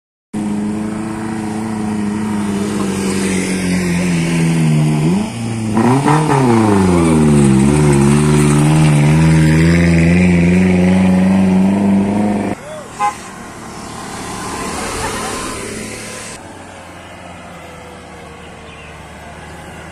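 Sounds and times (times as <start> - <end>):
vehicle passing close: 0.4 - 19.9.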